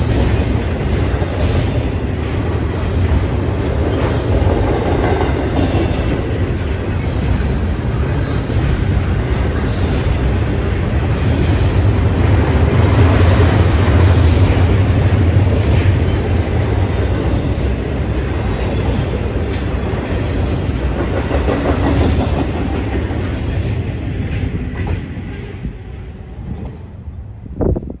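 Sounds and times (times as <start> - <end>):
freight train rolling on rails: 0.0 - 28.0.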